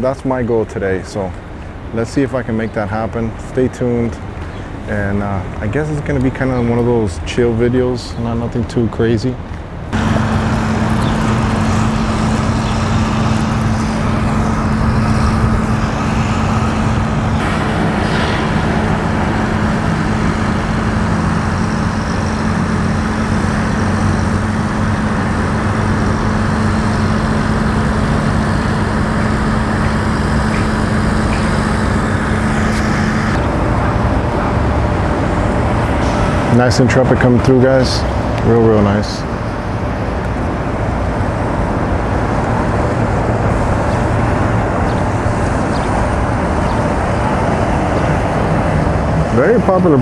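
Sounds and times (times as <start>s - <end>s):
low engine rumble: 0.0s - 50.0s.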